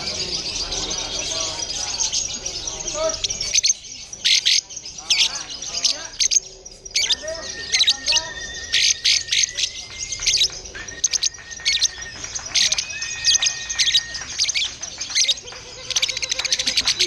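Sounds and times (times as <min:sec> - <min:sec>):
long whistled bird notes: 0:00.0 - 0:17.0
songbirds chirping and singing: 0:00.0 - 0:17.0.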